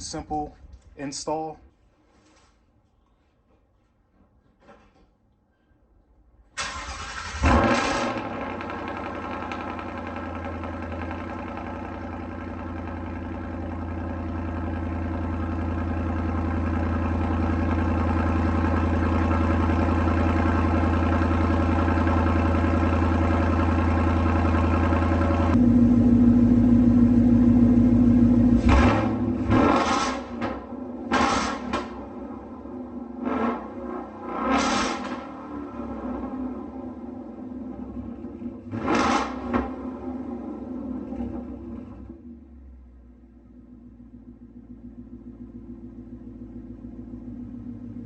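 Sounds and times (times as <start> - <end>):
car engine starting and idling: 6.4 - 48.0.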